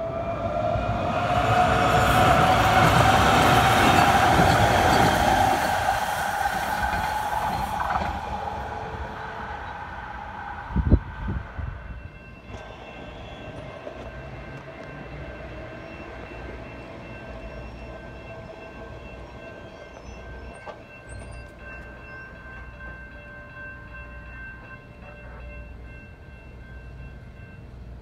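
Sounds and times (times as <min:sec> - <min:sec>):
train rumbling: 0:00.0 - 0:28.0
steady high tones: 0:01.2 - 0:27.6.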